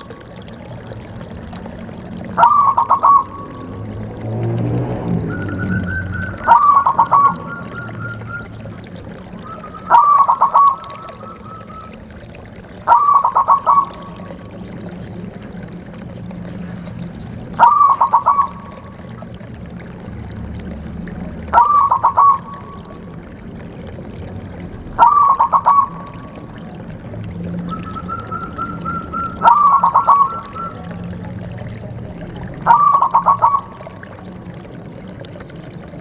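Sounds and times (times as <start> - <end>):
dove cooing: 0.0 - 3.8, 5.2 - 19.4, 21.2 - 23.9, 24.9 - 34.8.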